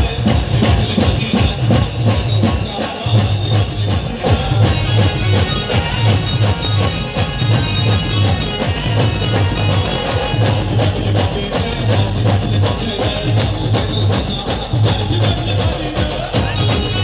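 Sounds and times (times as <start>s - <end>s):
loud amplified band music: 0.0s - 17.0s.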